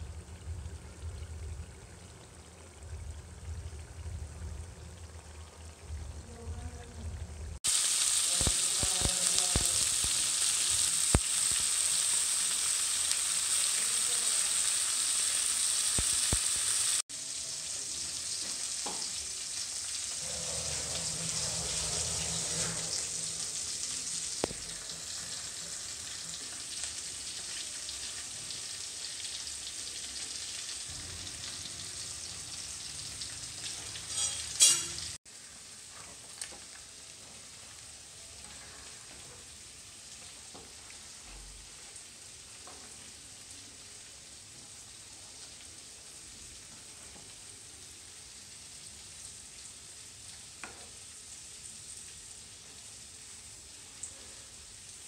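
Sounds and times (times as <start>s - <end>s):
meat sizzling in oil: 7.6s - 55.0s.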